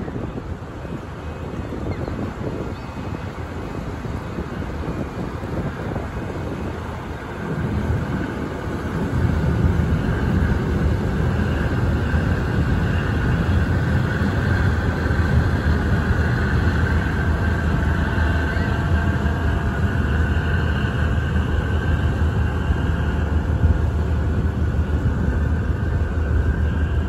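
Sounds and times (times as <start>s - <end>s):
tugboat diesel engines rumbling: 0.0s - 27.0s.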